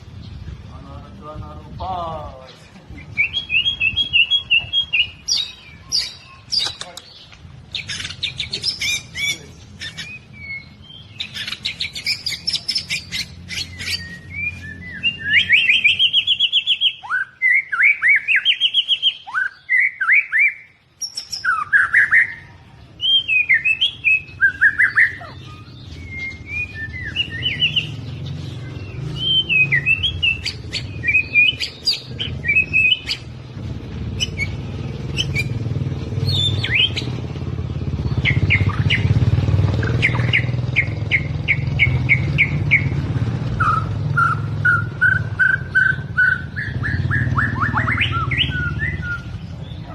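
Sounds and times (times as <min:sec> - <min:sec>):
bird singing varied song: 0:00.0 - 0:49.9.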